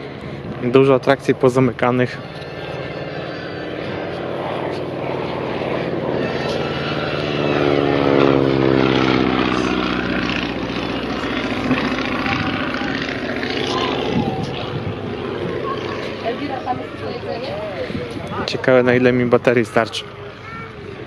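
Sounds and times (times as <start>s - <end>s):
propeller airplane flying past: 0.0s - 21.0s.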